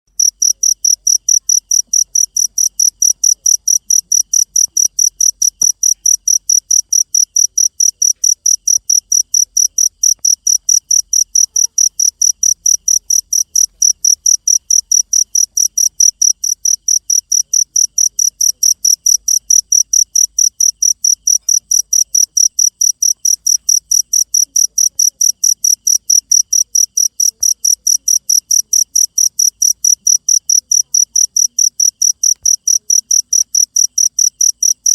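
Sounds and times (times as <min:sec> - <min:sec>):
cricket chirping: 0:00.2 - 0:34.9.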